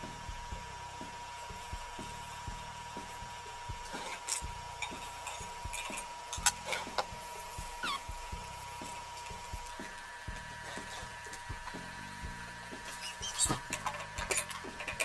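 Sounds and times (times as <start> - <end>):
egg frying hiss: 0.0 - 15.0.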